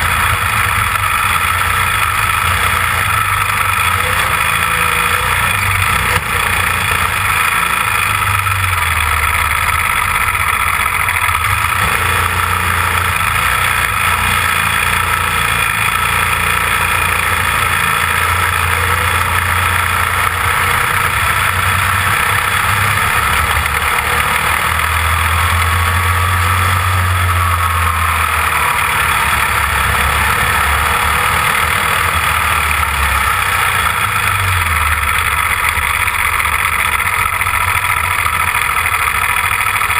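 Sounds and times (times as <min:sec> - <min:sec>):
constant rush of noise: 0:00.0 - 0:39.9
kart engine running: 0:00.0 - 0:39.9.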